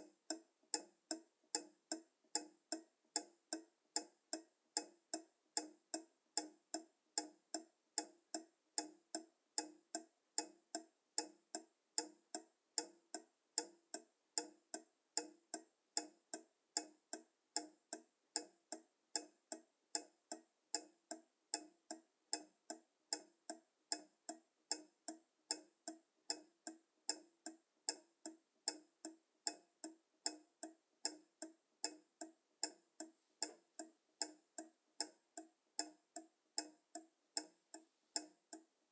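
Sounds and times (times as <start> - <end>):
pendulum clock ticking: 0.0 - 38.8.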